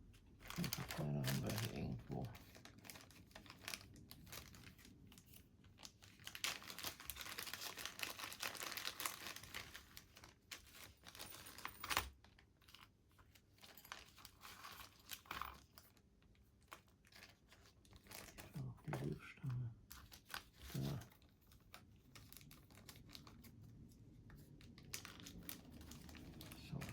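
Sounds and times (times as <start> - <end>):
packaging crinkling: 0.3 - 26.9.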